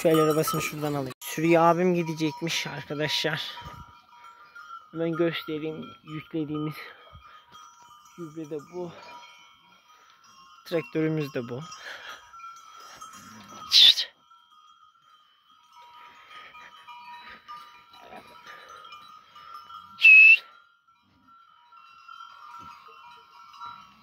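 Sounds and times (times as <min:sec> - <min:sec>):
neck bells ringing: 0:00.0 - 0:24.0.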